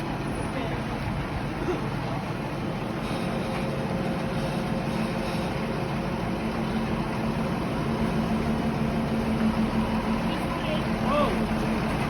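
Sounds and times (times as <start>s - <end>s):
heavy machinery engine humming: 0.0s - 12.0s.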